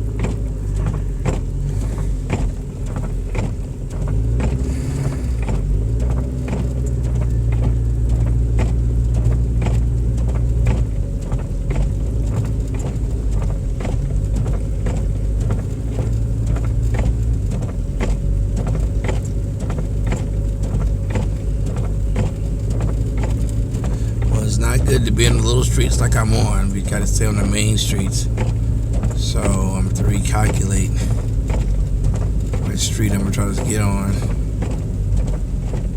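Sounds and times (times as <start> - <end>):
car engine and road hum: 0.0 - 35.9.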